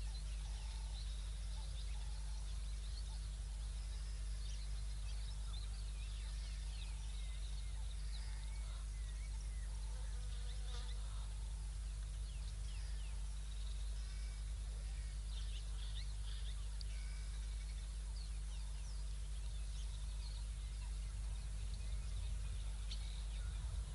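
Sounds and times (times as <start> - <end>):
birds chirping and calling: 0.0 - 23.9
steady low hum: 0.0 - 23.9.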